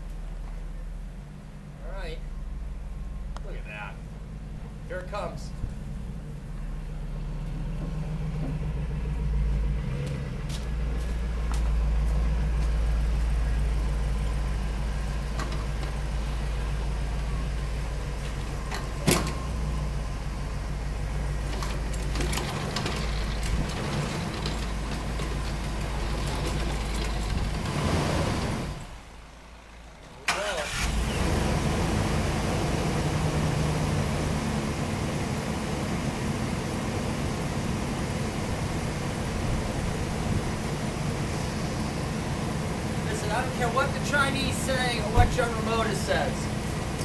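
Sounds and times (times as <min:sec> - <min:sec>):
engine running at low revs: 0:00.0 - 0:47.0.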